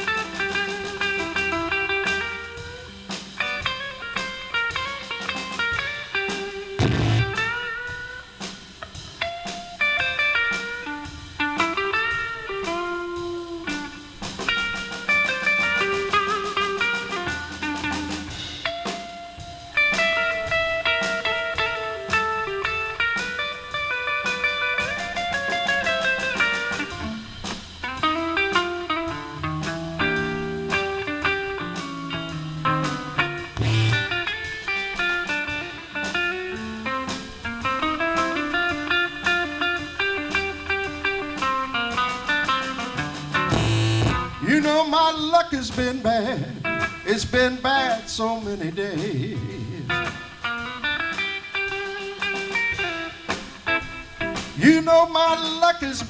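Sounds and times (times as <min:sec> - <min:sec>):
lead guitar solo: 0:00.0 - 0:45.0, 0:46.0 - 0:47.2, 0:49.0 - 0:55.4
blues band playing: 0:00.0 - 0:56.0.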